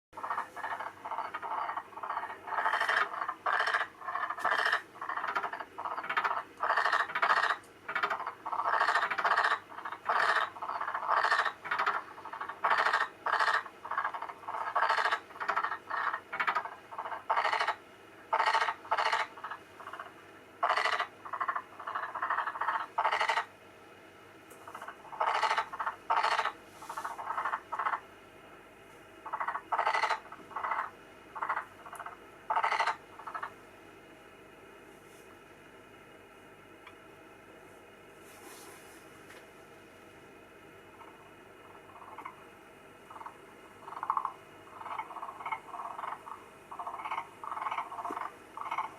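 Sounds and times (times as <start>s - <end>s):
frogs croaking: 0.2s - 23.5s, 24.6s - 28.1s, 29.2s - 33.6s, 40.9s - 48.9s.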